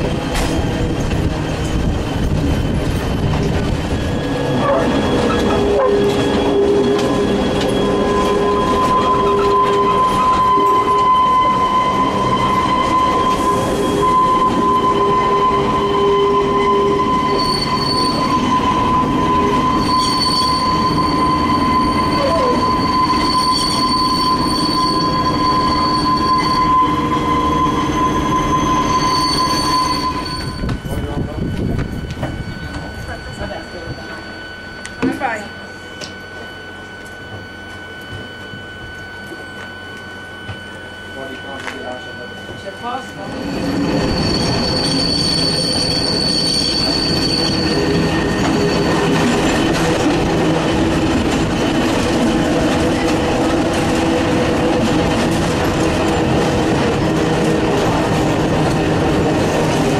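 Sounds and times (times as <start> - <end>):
higher wheel squeal: 0.0 - 59.9
train rumble: 0.0 - 59.9
train wheels squealing: 0.0 - 59.9.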